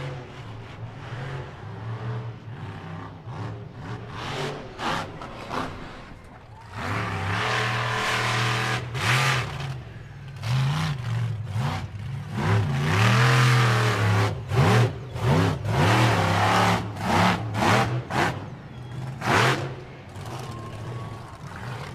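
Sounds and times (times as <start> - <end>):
tyres churning dirt: 0.0 - 21.9.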